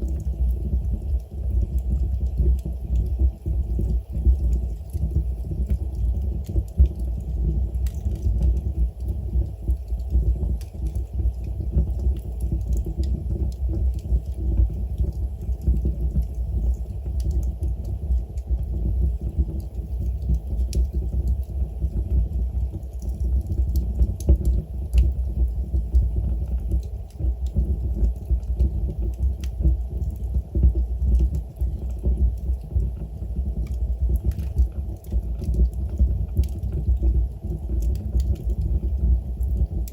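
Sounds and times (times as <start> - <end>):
fire rumbling: 0.0 - 39.9
wood logs burning and crackling: 0.0 - 39.9.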